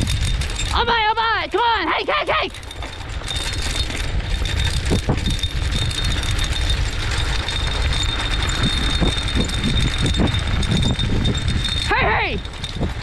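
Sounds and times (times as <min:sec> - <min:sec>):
wheels rolling over dirt trail: 0:00.0 - 0:13.0.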